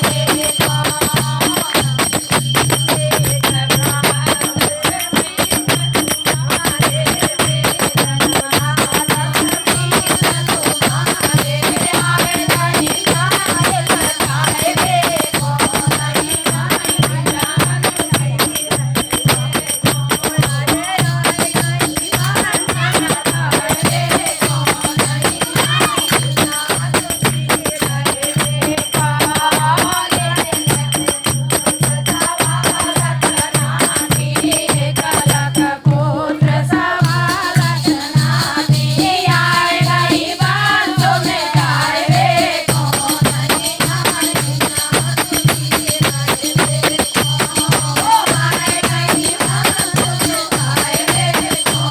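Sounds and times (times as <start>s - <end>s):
person singing folk song: 0.0s - 51.9s
rattling hand percussion: 0.0s - 51.9s.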